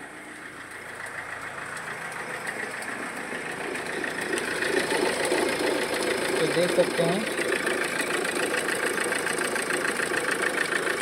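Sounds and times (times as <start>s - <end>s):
engine idling: 0.0s - 11.0s
rattling belt drive noise: 0.0s - 11.0s.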